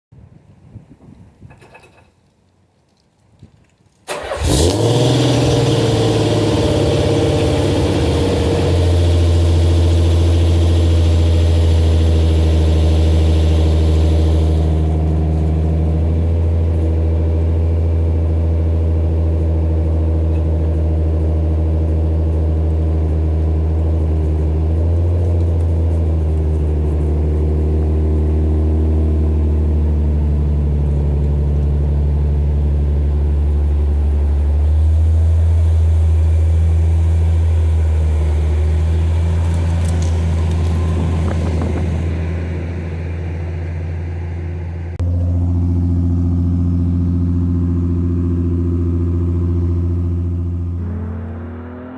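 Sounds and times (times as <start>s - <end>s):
car engine idling: 4.1s - 51.4s.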